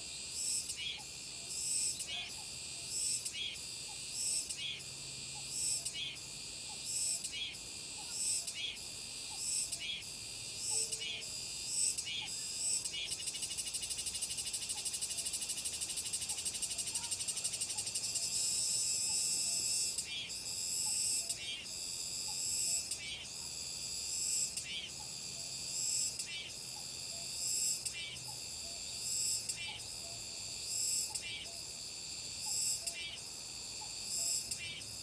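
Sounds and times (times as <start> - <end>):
cicadas singing: 0.0 - 35.0.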